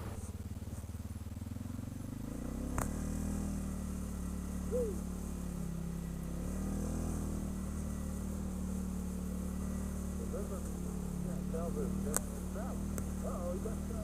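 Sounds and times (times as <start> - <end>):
quad bike engine idling: 0.0 - 14.0.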